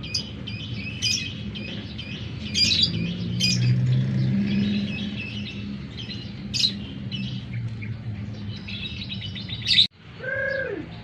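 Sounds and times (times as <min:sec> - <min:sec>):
lovebird chirping: 0:00.0 - 0:09.9.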